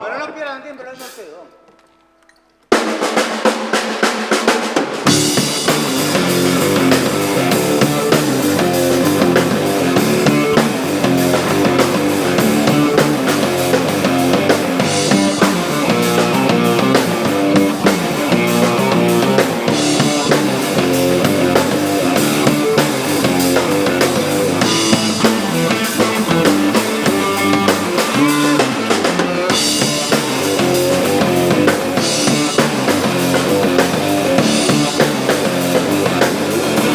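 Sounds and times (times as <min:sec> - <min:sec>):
drum kit with snare and rimshots: 0:00.0 - 0:36.9
rock band playing: 0:00.1 - 0:36.9.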